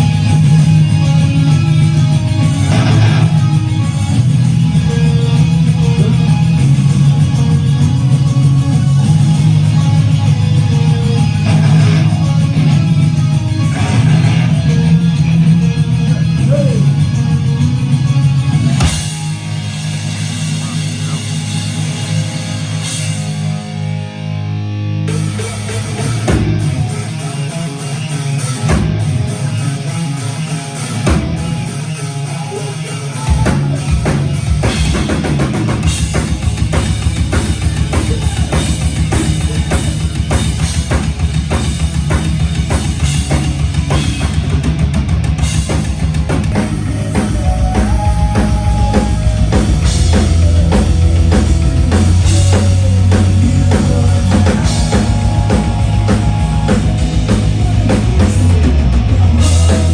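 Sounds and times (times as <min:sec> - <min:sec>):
drum kit beats: 0:00.0 - 0:23.9, 0:25.1 - 0:59.9
bass guitar: 0:00.0 - 0:59.9
electric guitar: 0:00.0 - 0:59.9.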